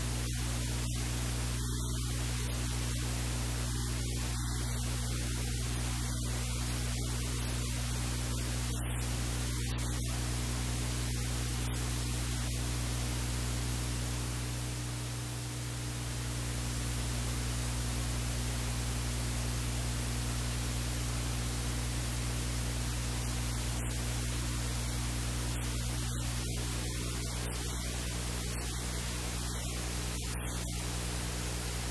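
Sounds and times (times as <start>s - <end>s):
low mains hum: 0.0s - 31.9s
steady hiss: 0.0s - 31.9s.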